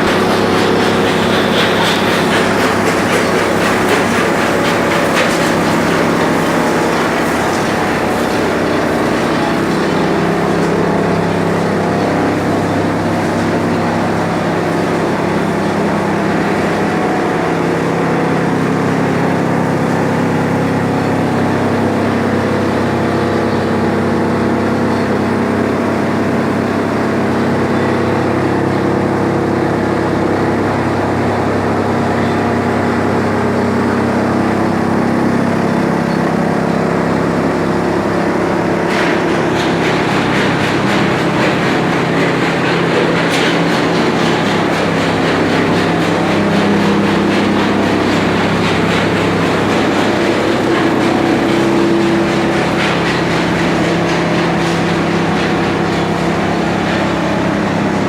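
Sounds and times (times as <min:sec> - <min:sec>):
heavy industrial machine droning: 0:00.0 - 0:58.0.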